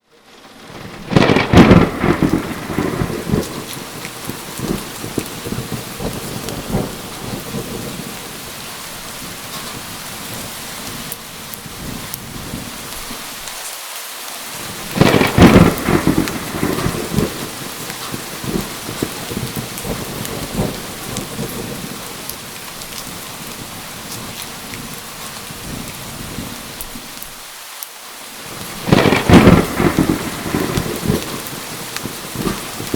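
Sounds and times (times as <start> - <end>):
heavy rain falling: 0.0 - 32.9
thunder cracking and rumbling: 0.5 - 13.3, 14.6 - 27.2, 28.5 - 32.9.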